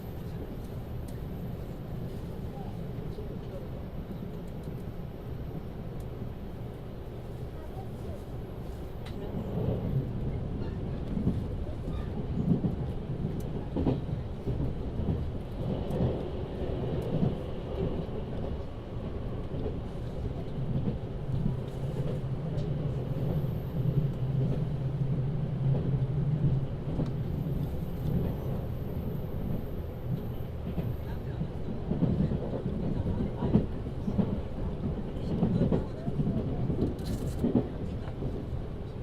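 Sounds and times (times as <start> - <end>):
rumble of wheels on rail: 0.0 - 39.0.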